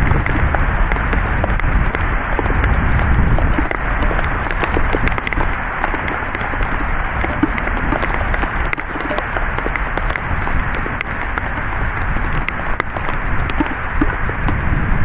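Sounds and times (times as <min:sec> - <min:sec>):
drops ticking close by: 0:00.0 - 0:14.7
heavy rain falling: 0:00.0 - 0:15.0.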